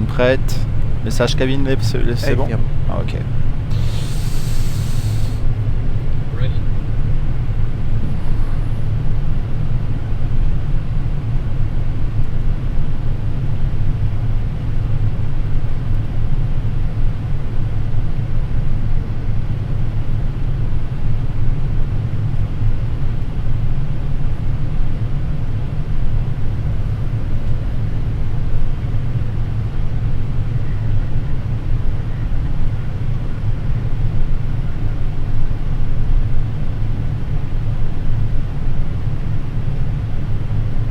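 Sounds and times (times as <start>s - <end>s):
low rumble of airflow and engines: 0.0s - 40.9s.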